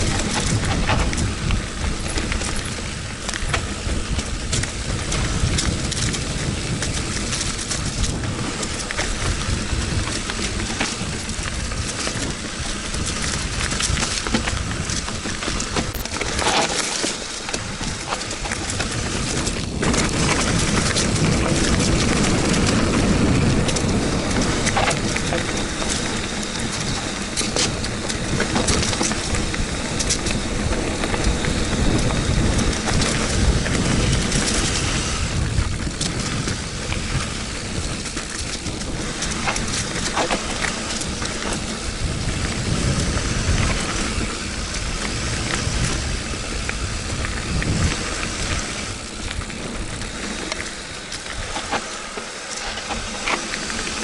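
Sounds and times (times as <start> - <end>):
bike clicks and rattles: 0.0 - 54.0
bike tyres rumbling over rocks: 0.0 - 54.0
wind on microphone: 0.0 - 54.0.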